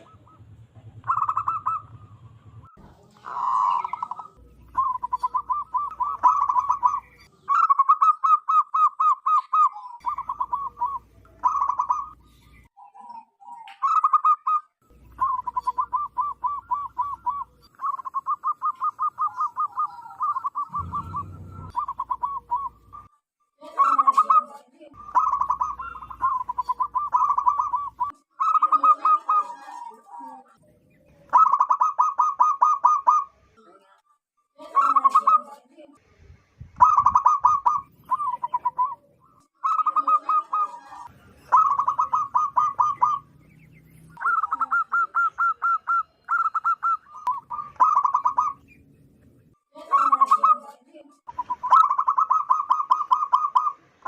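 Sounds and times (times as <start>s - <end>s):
dove cooing: 0.0s - 23.1s, 23.8s - 30.4s, 31.2s - 33.3s, 34.8s - 35.4s, 36.8s - 43.4s, 44.1s - 48.7s, 49.9s - 50.7s, 51.3s - 53.8s.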